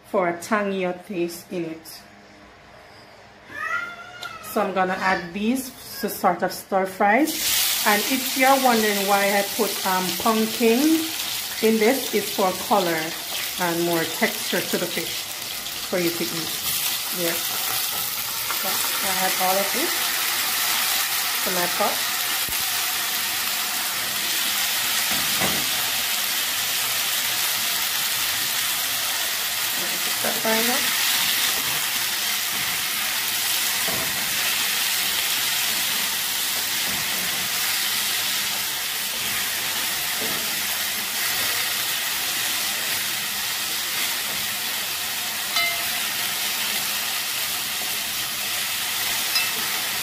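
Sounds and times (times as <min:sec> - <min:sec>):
vegetables sizzling in hot oil: 0:07.3 - 0:50.0.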